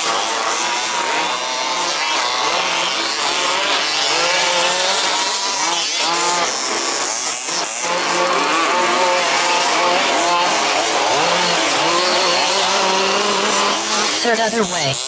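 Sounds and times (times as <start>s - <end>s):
rc buggy engines revving: 0.0s - 15.0s.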